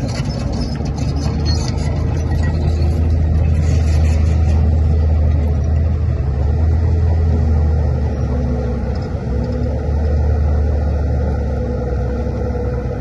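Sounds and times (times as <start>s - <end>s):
bulldozer engine drone: 0.0s - 13.0s.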